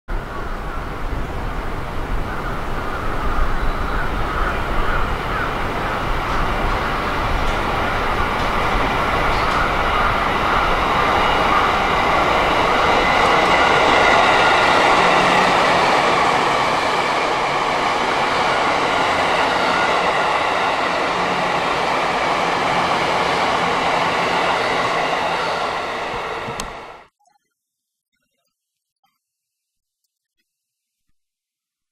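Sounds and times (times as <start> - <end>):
electric train passing: 0.1 - 27.1.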